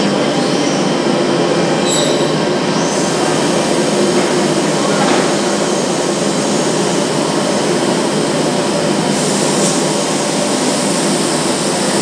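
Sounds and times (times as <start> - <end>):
machine humming with high hiss: 0.0 - 12.0.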